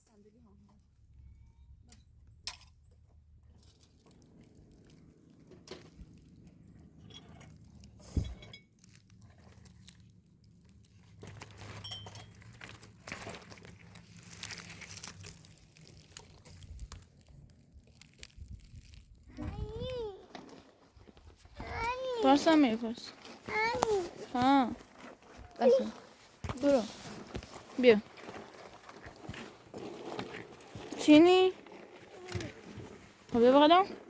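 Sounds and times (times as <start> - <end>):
rustling and crunching: 3.1 - 34.0.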